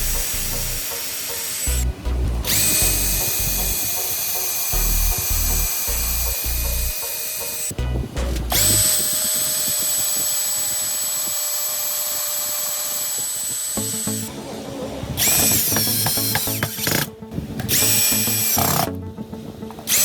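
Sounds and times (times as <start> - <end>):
power tool high whine: 0.0 - 1.8, 2.4 - 7.7, 8.5 - 17.1, 17.7 - 19.0.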